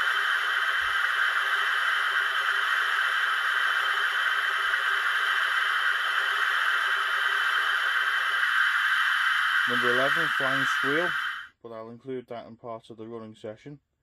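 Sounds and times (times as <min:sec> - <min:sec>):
water rushing hiss through speaker: 0:00.0 - 0:11.5.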